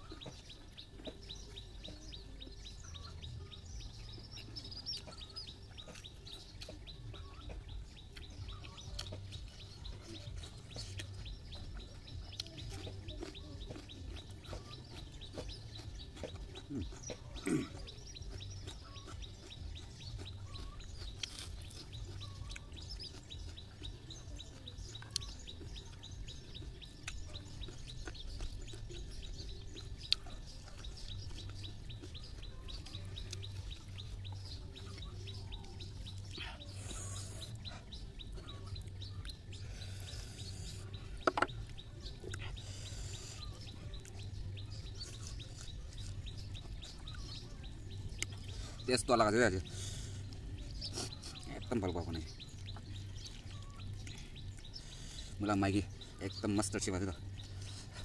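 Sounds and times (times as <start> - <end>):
person eating with clicks and smacks: 0.0 - 56.4, 57.1 - 58.0
birds chirping: 0.0 - 58.0.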